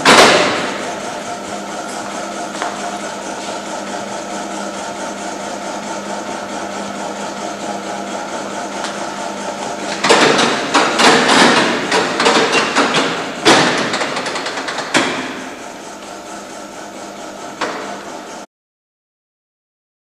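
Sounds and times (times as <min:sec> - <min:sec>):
steady hum: 0:00.0 - 0:18.5.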